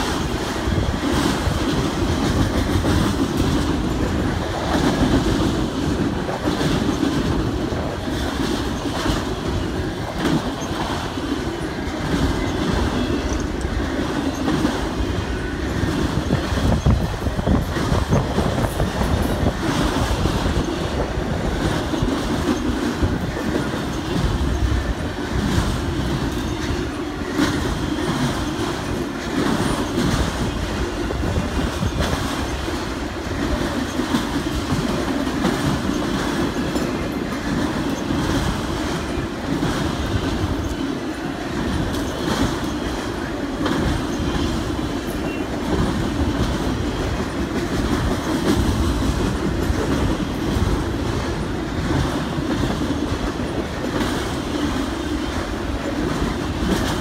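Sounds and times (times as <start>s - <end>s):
freight train wheels rumbling: 0.0s - 57.0s
wheels clacking over rail joints: 0.0s - 57.0s.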